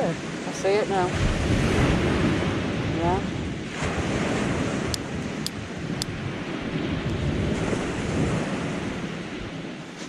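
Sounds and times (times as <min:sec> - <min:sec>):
sea surf washing: 0:00.0 - 0:10.0
wind buffeting microphone: 0:00.0 - 0:10.0.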